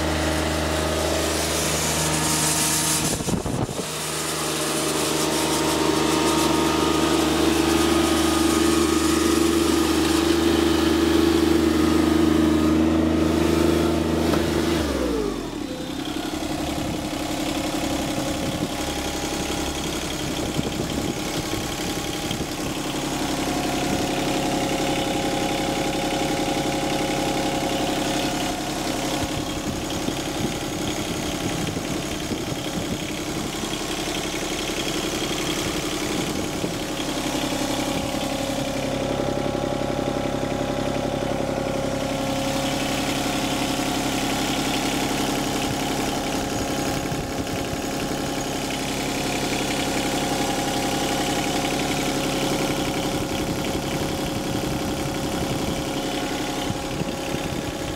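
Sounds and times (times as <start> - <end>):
diesel mower engine running: 0.0 - 57.9.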